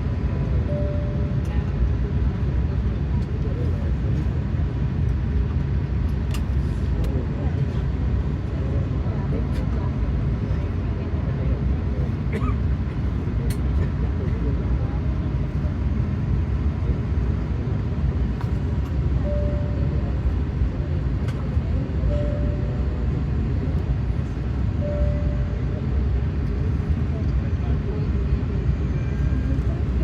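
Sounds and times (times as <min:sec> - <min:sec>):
jet engines running at low power: 0:00.0 - 0:30.0.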